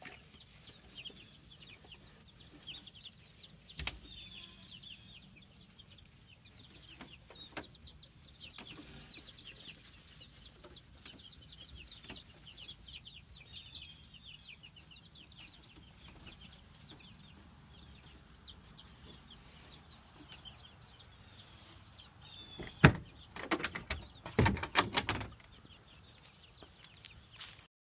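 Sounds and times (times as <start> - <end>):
chicks peeping: 0.0 - 27.6.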